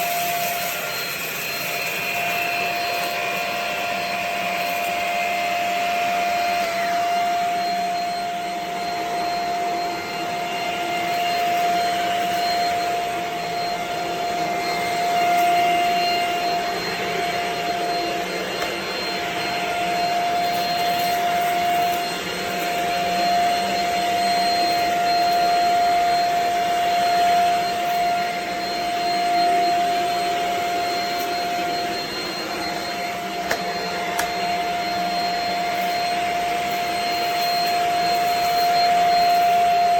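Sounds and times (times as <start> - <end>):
stick vacuum running: 0.0 - 39.9.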